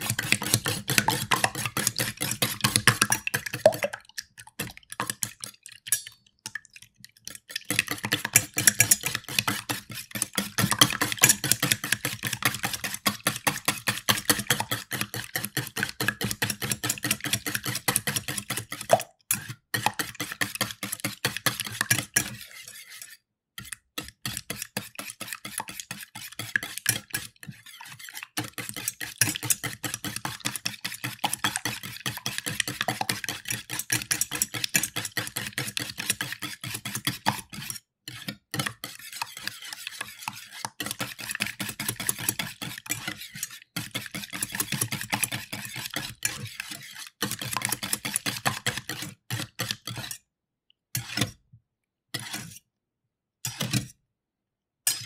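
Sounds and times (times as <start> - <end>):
whisk beating eggs in metal bowl: 0.0 - 50.2, 51.0 - 51.4, 52.2 - 52.6, 53.5 - 53.8.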